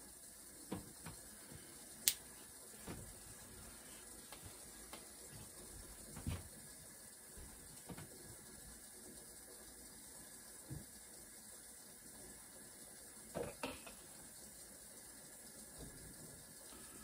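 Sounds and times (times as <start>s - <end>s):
steady faint hiss: 0.0s - 17.0s.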